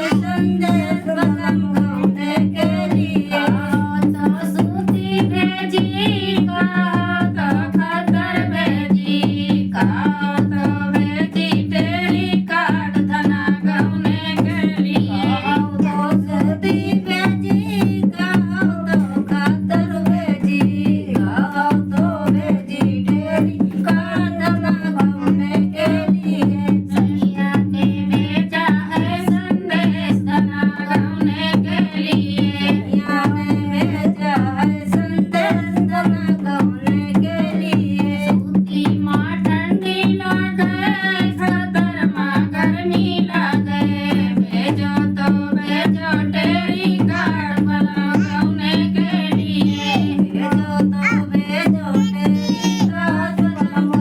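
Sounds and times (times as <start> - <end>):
hand-drum beat: 0.0 - 54.0.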